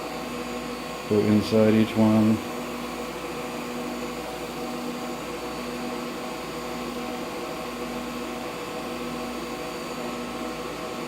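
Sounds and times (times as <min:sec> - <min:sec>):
vacuum equipment humming: 0:00.0 - 0:11.0.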